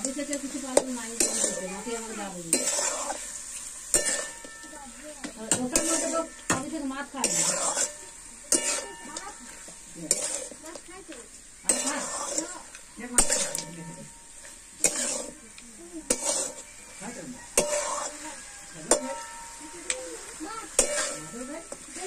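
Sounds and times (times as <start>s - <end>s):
food sizzling: 0.0s - 22.0s
metal spatula scraping wok: 0.0s - 22.0s.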